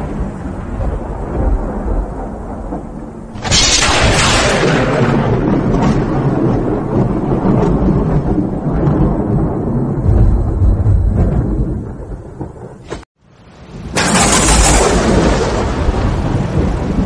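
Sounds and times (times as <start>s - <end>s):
thunder rumble and crack: 0.0s - 17.0s.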